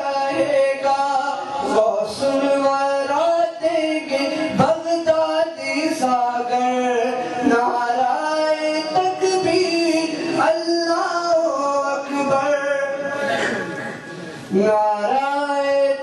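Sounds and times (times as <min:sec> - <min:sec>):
man singing unaccompanied: 0:00.0 - 0:13.2, 0:14.5 - 0:16.0.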